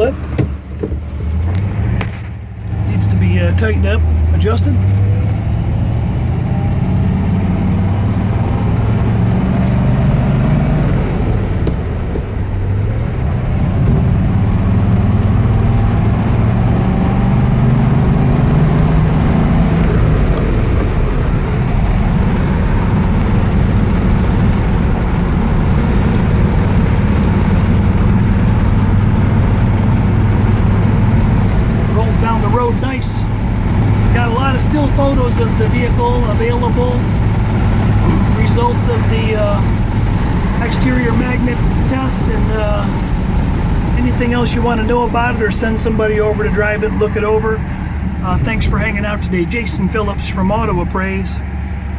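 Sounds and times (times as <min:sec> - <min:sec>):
car engine running: 0:00.0 - 0:51.9
road noise: 0:00.0 - 0:51.9.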